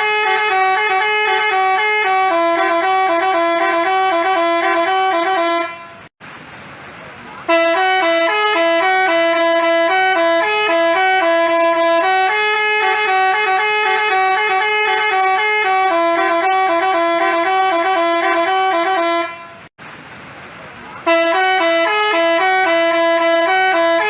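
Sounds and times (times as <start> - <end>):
musical bus horn playing tune: 0.0 - 6.1, 7.5 - 19.7, 21.0 - 24.0.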